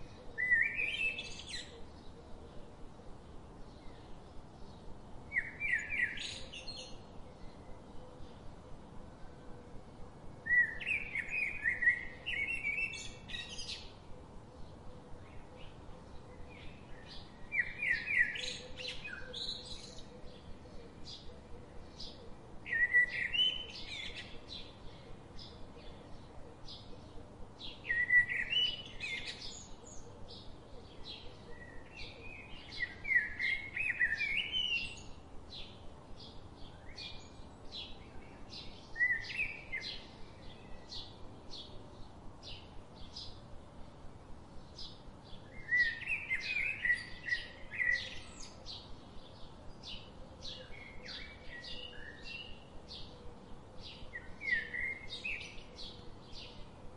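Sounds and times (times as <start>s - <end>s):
bird warbling song: 0.0s - 2.6s, 3.6s - 9.0s, 10.4s - 43.5s, 44.6s - 56.9s
songbirds chirping: 0.0s - 56.9s.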